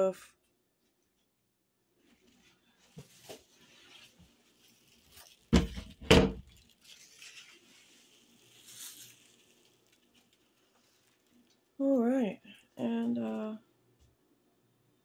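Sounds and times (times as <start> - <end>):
soft rustling: 0.8 - 13.4.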